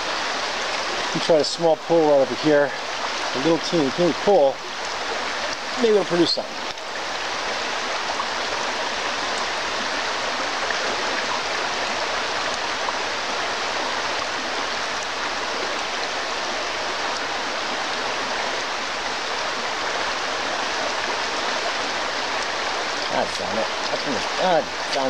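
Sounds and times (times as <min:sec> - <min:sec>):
stream rushing over stones: 0:00.0 - 0:25.0.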